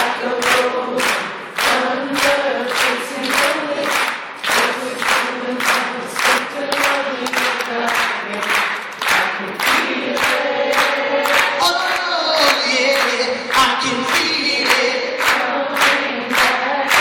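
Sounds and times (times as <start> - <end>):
group singing a cappella: 0.0 - 17.0
hand claps: 0.0 - 17.0.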